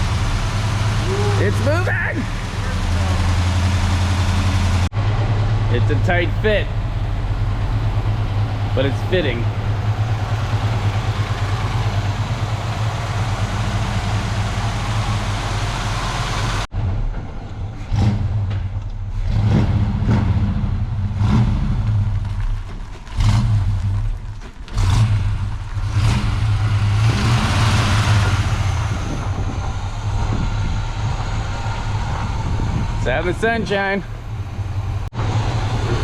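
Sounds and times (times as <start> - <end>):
pickup truck engine running: 0.0 - 16.8, 21.9 - 36.0.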